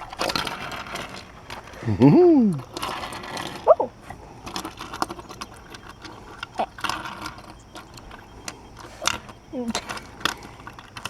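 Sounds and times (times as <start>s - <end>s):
toy wheelchair clicking and clattering: 0.0s - 11.0s.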